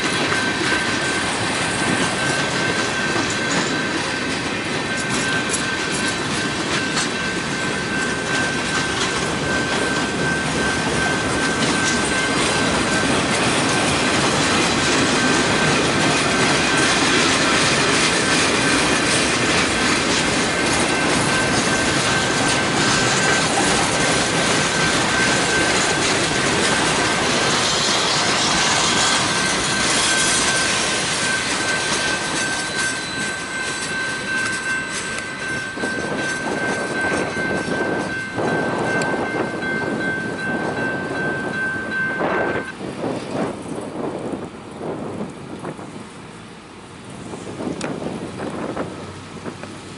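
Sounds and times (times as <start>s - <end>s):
wheels clacking over rails: 0.0s - 46.4s
freight cars rolling past: 0.0s - 49.9s.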